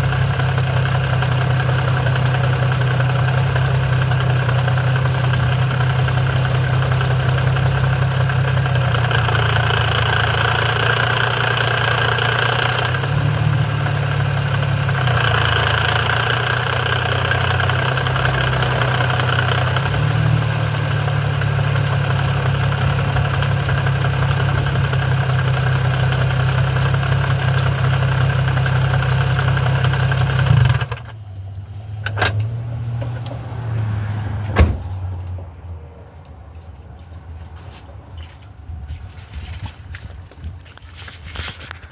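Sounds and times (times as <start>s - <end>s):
car engine idling: 0.0s - 33.6s.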